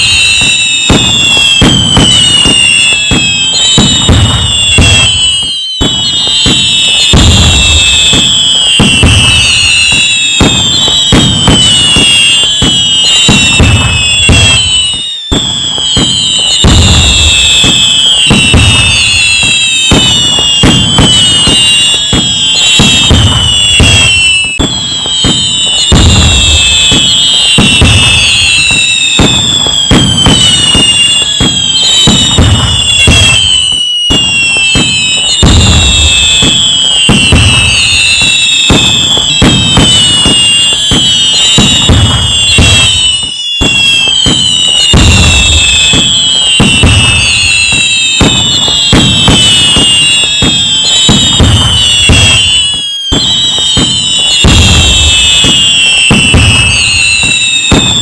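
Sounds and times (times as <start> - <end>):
falling firework whistles: 0.0 - 58.0
fireworks booming and crackling: 0.0 - 58.0.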